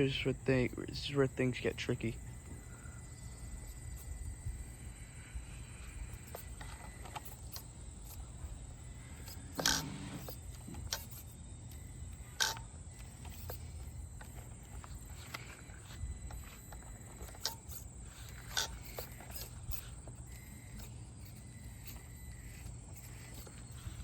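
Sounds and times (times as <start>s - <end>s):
rc car motor rumble: 0.0s - 24.0s.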